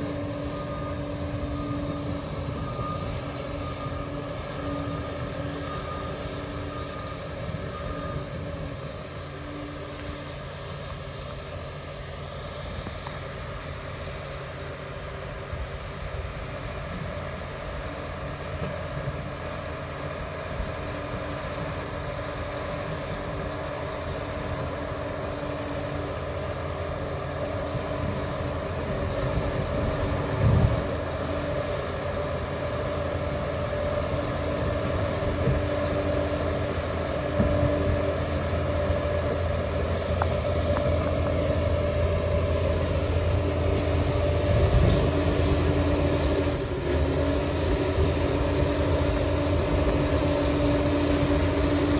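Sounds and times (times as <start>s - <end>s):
dozer diesel engine running: 0.0s - 51.9s.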